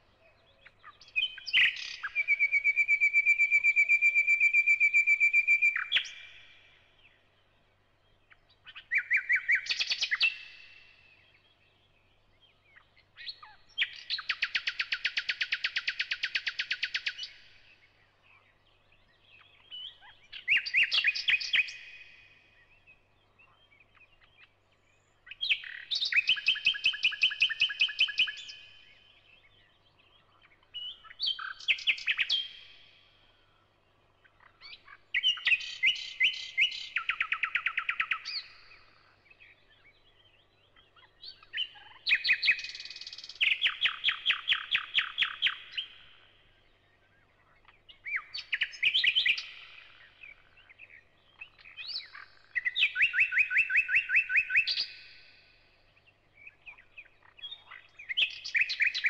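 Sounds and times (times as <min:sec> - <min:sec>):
nightingale singing: 0:00.0 - 0:59.0.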